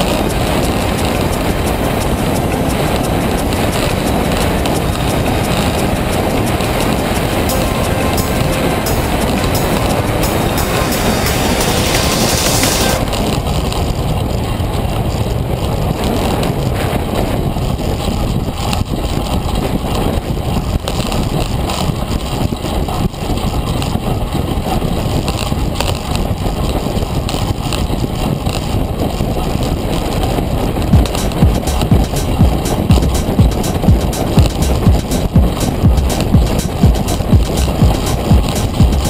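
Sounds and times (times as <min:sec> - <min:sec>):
wind on microphone: 0:00.0 - 0:39.0.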